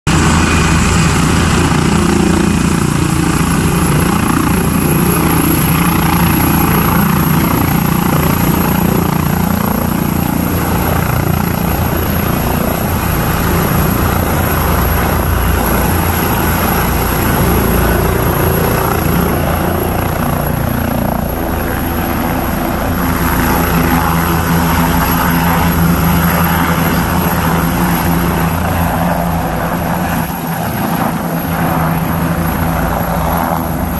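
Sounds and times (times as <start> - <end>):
helicopter rotors and turbines: 0.1 - 33.9.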